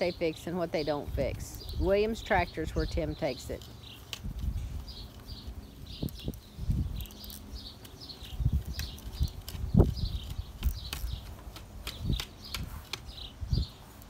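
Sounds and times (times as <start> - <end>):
bird chirping falling notes: 1.6 - 14.0.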